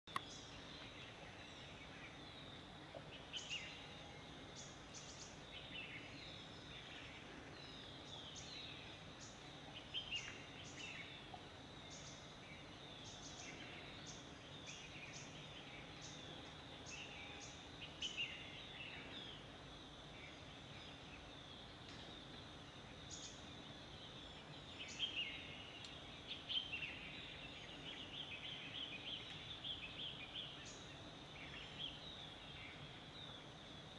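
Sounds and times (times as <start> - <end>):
steady low hiss: 0.1 - 33.9.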